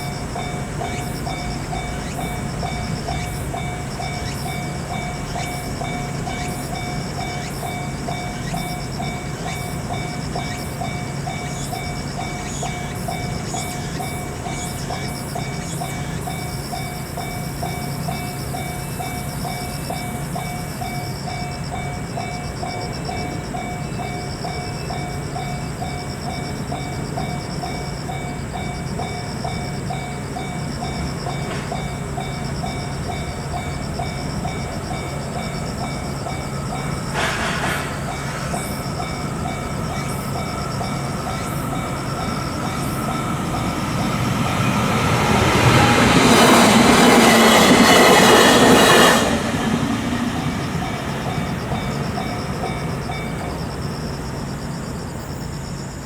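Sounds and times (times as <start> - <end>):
railroad crossing bell ringing: 0.0 - 56.0
train noise: 0.0 - 56.0.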